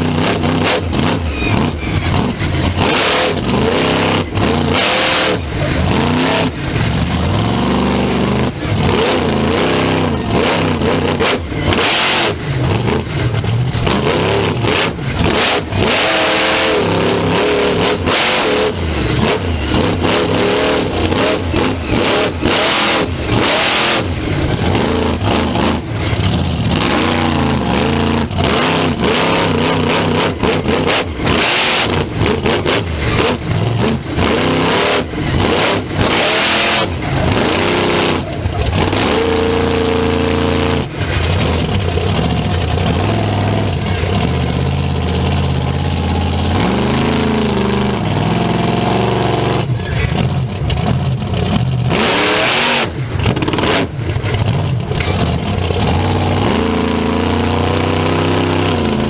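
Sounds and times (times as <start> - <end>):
vehicle engines revving: 0.0 - 59.0.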